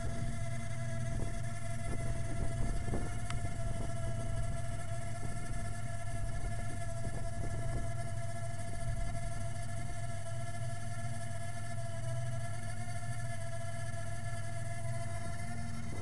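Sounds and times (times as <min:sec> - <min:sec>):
constant high whine: 0:00.0 - 0:16.0
engine running with low drone: 0:00.0 - 0:16.0.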